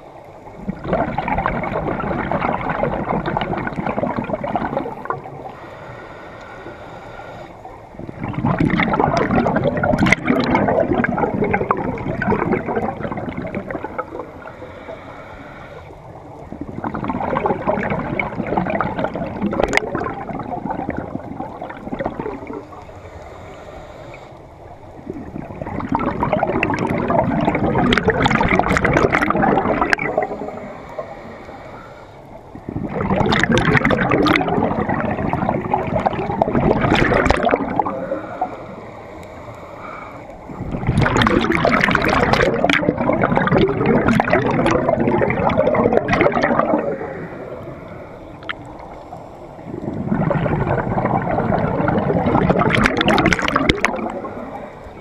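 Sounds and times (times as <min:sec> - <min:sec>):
scuba regulator bubbles gurgling: 0:00.0 - 0:55.0.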